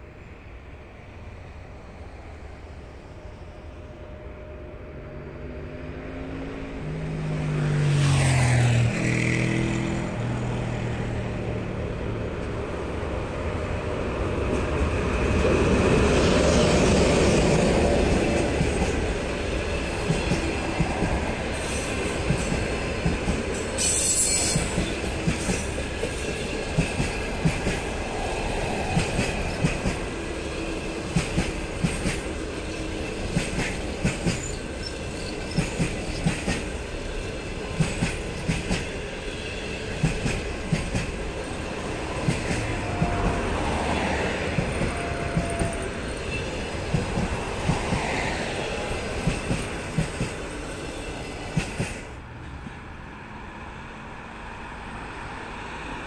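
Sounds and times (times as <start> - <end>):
electric locomotive passing: 0.0 - 56.0
rail noise of rolling coaches: 0.0 - 56.0.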